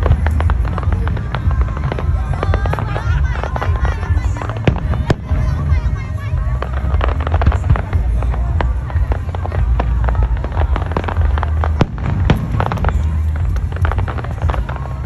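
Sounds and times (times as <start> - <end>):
fireworks popping and crackling: 0.0 - 15.0
low rumble: 0.0 - 15.0.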